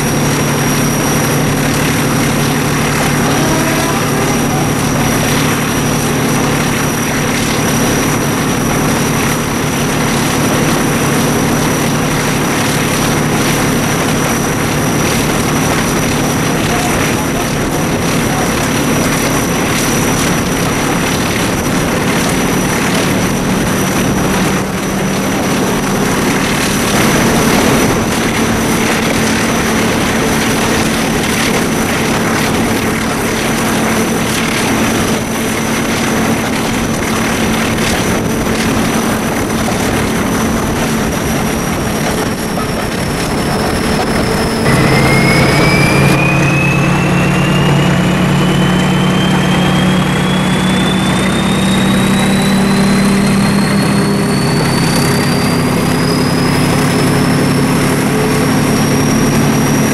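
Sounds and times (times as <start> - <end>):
diesel locomotive engines running: 0.0 - 59.9
rising whine: 0.0 - 59.9
track noise: 0.0 - 59.9
wind: 0.0 - 59.9.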